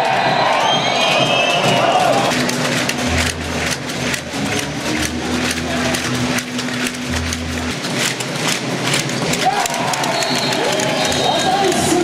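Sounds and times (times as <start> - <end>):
crowd clapping fast: 0.0 - 12.0.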